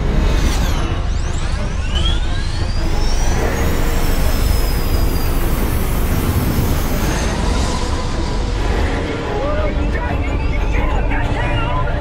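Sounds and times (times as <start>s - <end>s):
heavy continuous rumble: 0.0s - 12.0s
sweeping whistling tones: 0.3s - 12.0s.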